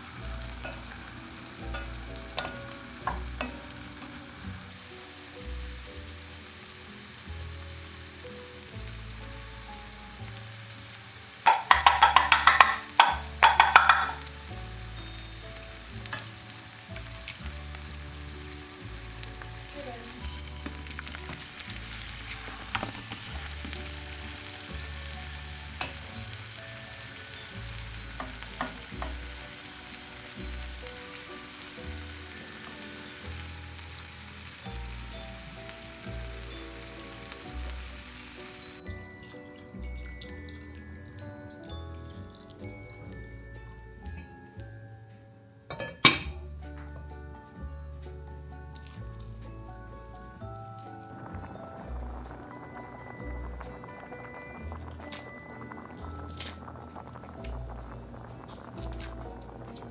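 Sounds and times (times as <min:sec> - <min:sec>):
stirring in a pan: 0:00.0 - 0:38.9, 0:50.2 - 0:59.9
crackling sizzle burst: 0:00.0 - 0:40.8, 0:48.8 - 0:59.9
food sizzling in a pan: 0:00.0 - 0:41.8, 0:48.8 - 0:59.9.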